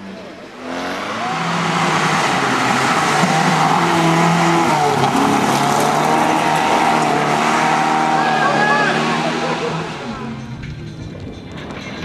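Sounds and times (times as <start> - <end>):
rally car engine at high revs: 0.0 - 10.7.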